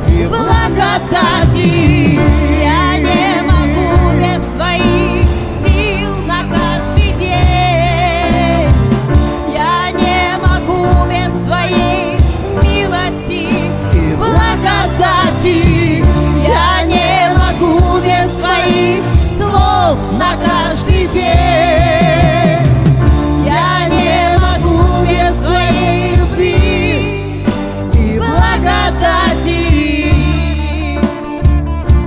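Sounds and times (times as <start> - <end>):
person singing with vibrato: 0.0 - 31.5
bass guitar: 0.0 - 32.0
electric guitar: 0.0 - 32.0
keyboard: 0.0 - 32.0.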